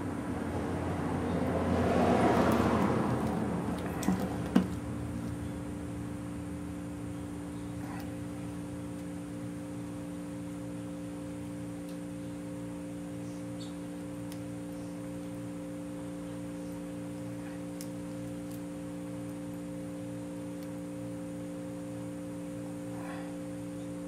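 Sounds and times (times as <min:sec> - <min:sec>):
low hum of held tones: 0:00.0 - 0:24.0.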